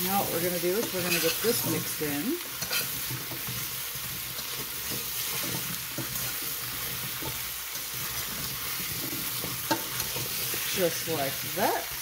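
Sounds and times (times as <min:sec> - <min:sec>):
vegetables sizzling in a pot: 0:00.0 - 0:12.0
spoon scraping a pot: 0:00.5 - 0:10.8.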